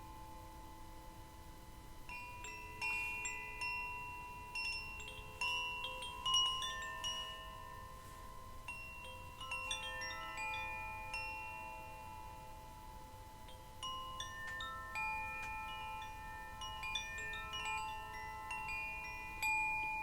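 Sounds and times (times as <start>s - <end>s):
metal chimes ringing: 2.1s - 20.0s.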